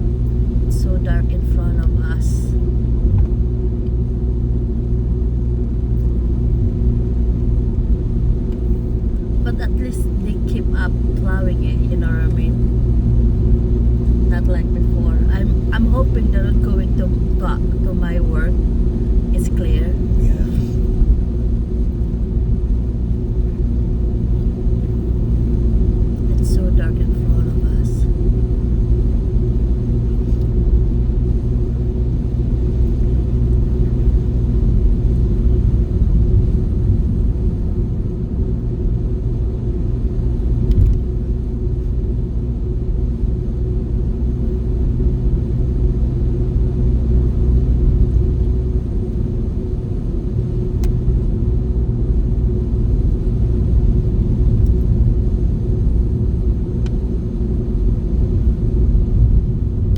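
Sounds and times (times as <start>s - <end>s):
car driving interior rumble: 0.0s - 59.9s.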